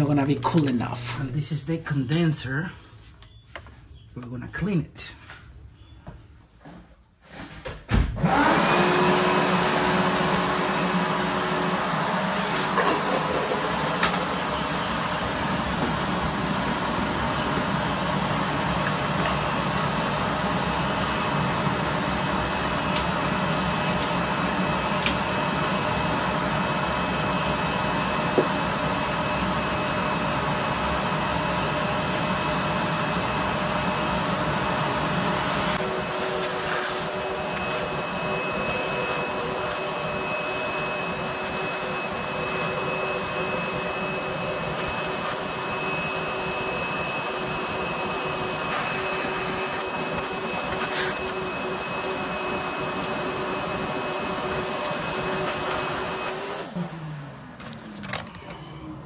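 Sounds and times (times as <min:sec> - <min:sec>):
vacuum cleaner running: 0:07.9 - 0:59.0.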